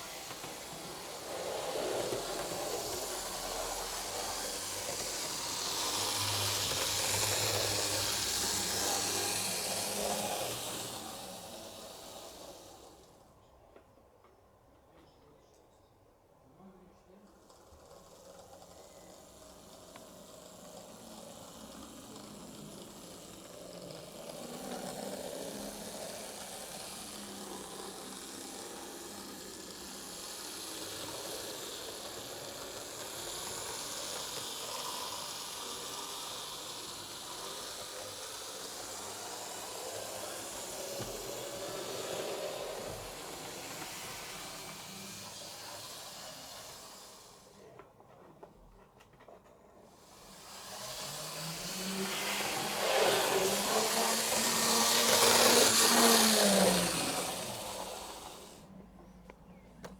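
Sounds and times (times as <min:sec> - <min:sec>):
model train motor whirring: 0:00.0 - 0:13.5, 0:16.7 - 0:59.9.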